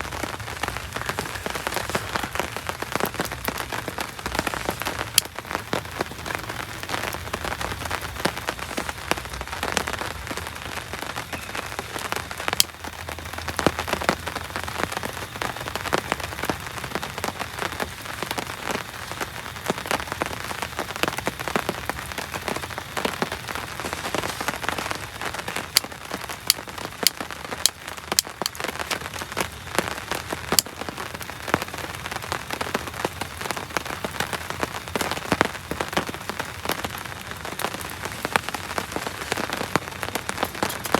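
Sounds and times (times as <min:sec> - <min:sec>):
heavy rain falling: 0:00.0 - 0:40.9
raindrop strikes close by: 0:00.0 - 0:40.9.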